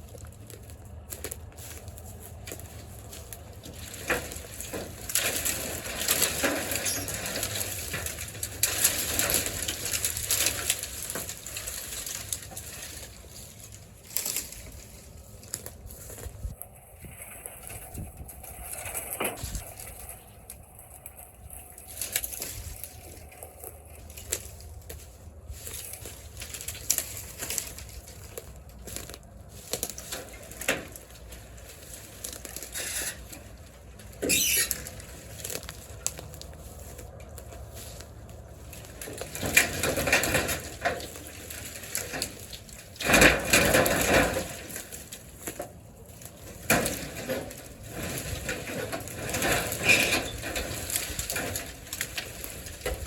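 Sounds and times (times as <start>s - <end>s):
brush crunching and crackling: 0.0s - 53.0s
rustling: 0.0s - 53.0s.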